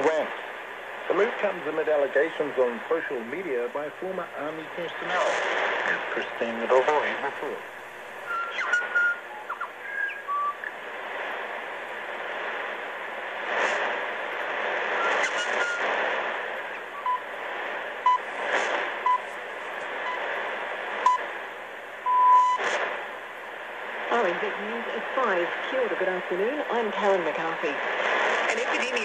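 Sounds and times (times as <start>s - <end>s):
atmospheric radio hiss: 0.0s - 29.0s
radio static crashes: 0.0s - 29.0s.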